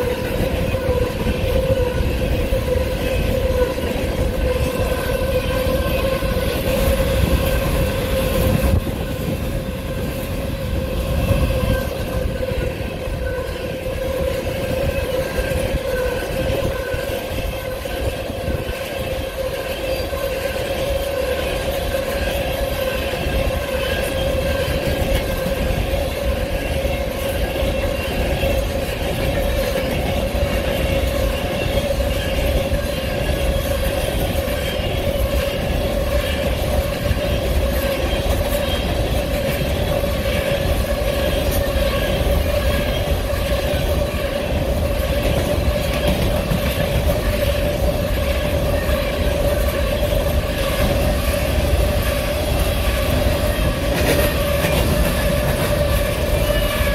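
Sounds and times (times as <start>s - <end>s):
train wheels rumbling: 0.0s - 56.9s
wind buffeting microphone: 0.0s - 56.9s.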